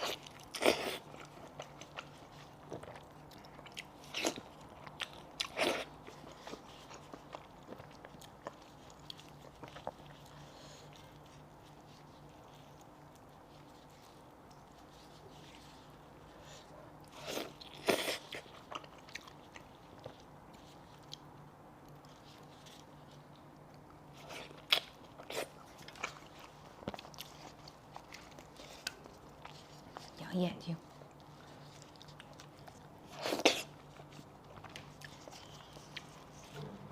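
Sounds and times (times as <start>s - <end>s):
wet chewing smacks: 0.0s - 30.2s, 30.8s - 36.6s.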